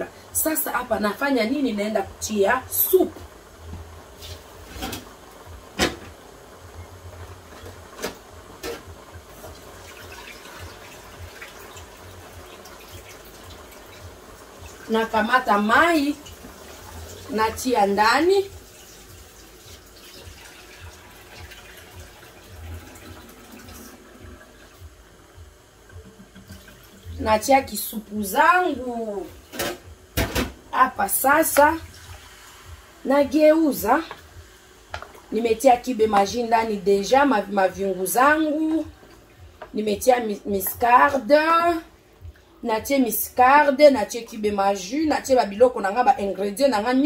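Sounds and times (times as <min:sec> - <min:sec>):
kitchen background noise: 0:00.0 - 0:47.0.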